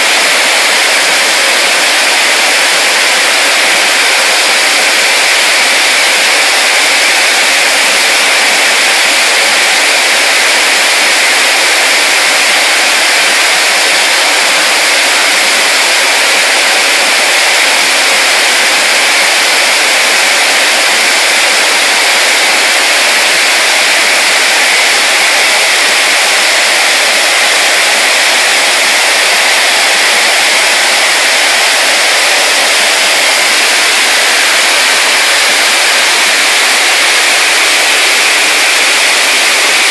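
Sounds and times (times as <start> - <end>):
steam rushing through pipes: 0.0 - 39.9.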